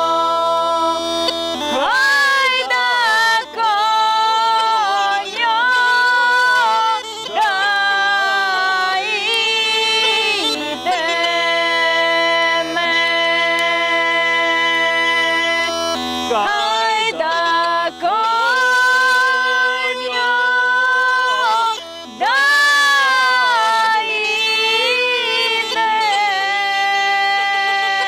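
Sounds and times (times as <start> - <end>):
bagpipe drone and melody: 0.0 - 28.0
man and woman singing: 1.7 - 28.0.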